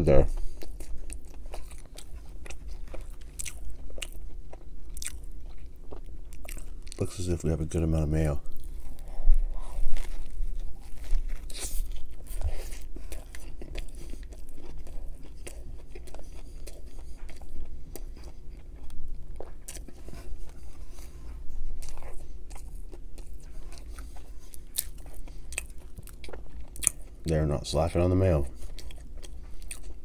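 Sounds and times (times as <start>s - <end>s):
crunchy chewing: 0.0s - 30.0s.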